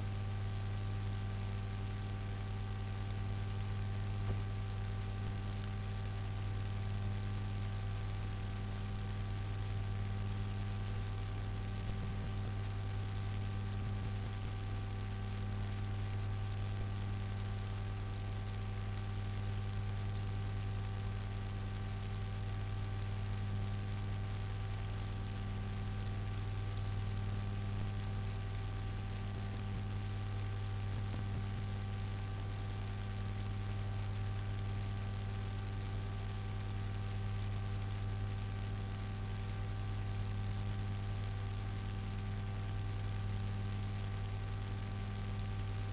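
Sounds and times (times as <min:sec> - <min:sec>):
constant hiss: 0:00.0 - 0:45.9
electrical mains hum: 0:00.0 - 0:45.9.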